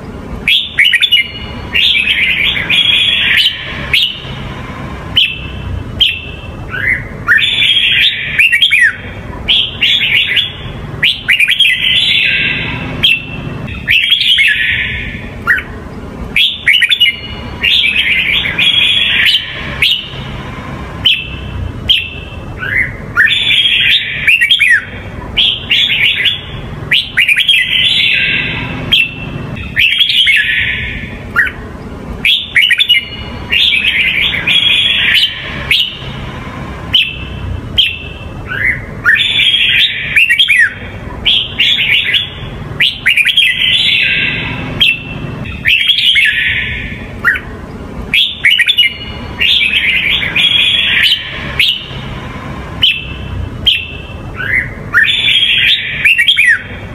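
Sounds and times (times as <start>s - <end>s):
bird singing whistled notes: 0.4s - 4.5s, 5.1s - 15.7s, 16.4s - 20.3s, 21.0s - 31.6s, 32.2s - 36.2s, 36.9s - 47.5s, 48.1s - 52.1s, 52.8s - 56.8s.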